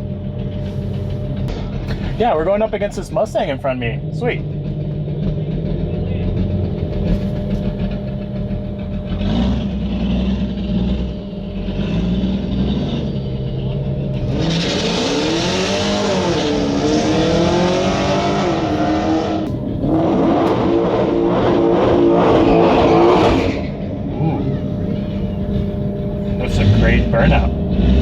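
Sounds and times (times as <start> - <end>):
spinning tyres hissing: 0.0 - 3.5, 5.7 - 28.0
car engine idling and revving: 0.0 - 28.0.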